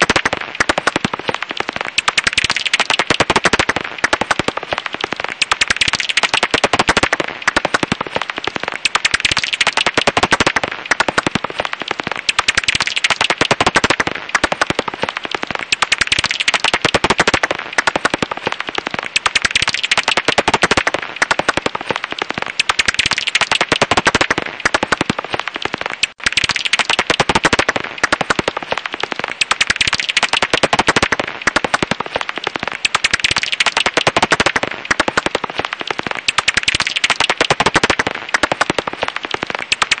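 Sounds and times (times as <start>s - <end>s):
bat calls rapid clicking: 0.0s - 40.0s.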